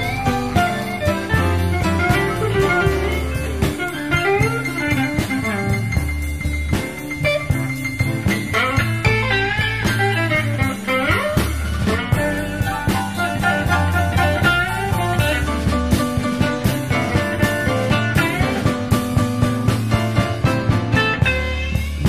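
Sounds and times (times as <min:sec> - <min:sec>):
bass line: 0:00.0 - 0:22.0
drums: 0:00.0 - 0:22.0
electric guitar lead: 0:00.0 - 0:22.0.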